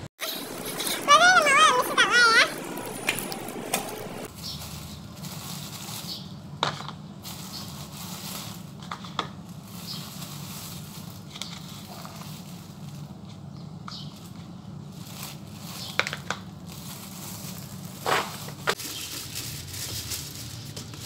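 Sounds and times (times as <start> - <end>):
plastic bag rustling: 0.2 - 6.4, 7.2 - 13.3, 14.2 - 21.0.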